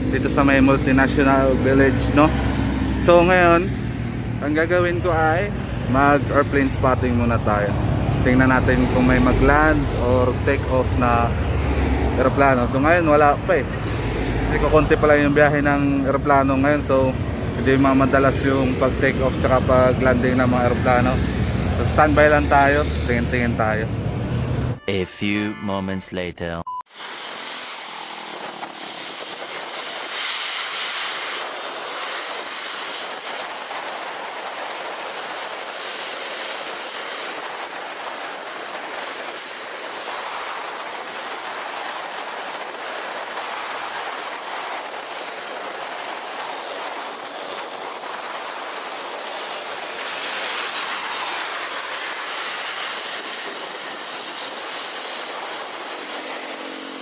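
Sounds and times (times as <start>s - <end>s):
jet engines running: 0.0s - 24.8s, 27.0s - 57.0s.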